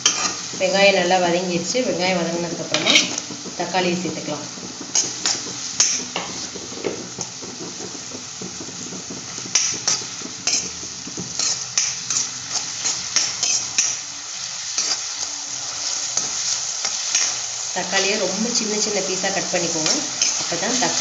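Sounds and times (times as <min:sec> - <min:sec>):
metal spoon scraping a pan: 0:00.0 - 0:00.7, 0:02.6 - 0:03.5, 0:04.6 - 0:07.9, 0:08.5 - 0:21.0
hot oil sizzling: 0:00.0 - 0:21.0.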